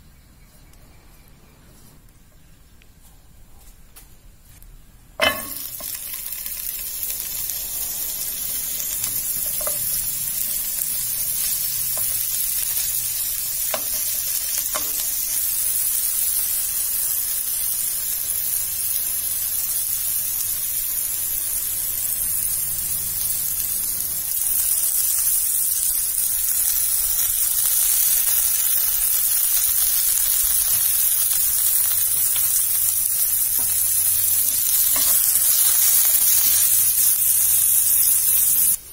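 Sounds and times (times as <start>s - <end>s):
carrots sizzling in hot oil: 5.2s - 38.9s.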